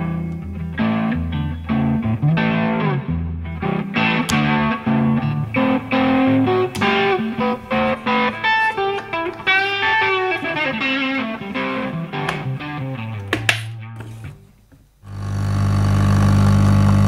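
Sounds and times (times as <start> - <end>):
electric guitar melody: 0.0 - 14.5.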